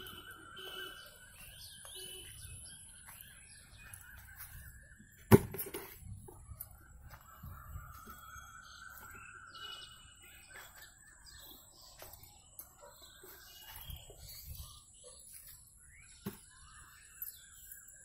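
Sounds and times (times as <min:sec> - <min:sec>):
faint bird chirps and calls: 0:00.0 - 0:05.3, 0:06.2 - 0:18.0.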